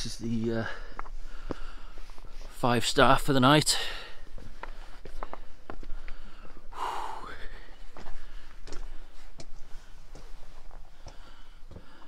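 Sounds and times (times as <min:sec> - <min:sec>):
footsteps on stony floor: 0:00.1 - 0:12.0.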